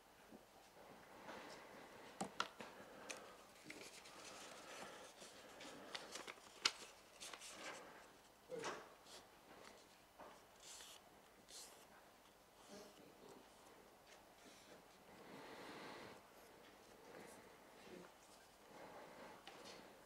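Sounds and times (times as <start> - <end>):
faint paper rustling: 0.6 - 20.0.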